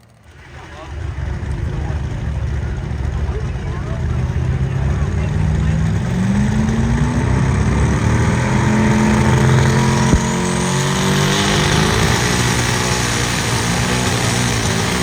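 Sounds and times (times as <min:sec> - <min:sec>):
engine running hard under load: 0:00.0 - 0:15.0.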